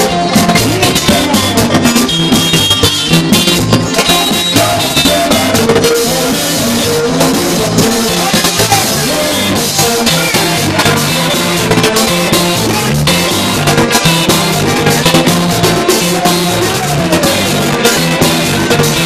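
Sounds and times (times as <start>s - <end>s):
drum kit beat: 0.0s - 19.0s
guitar: 0.0s - 19.0s
repeating bass line: 0.0s - 19.0s.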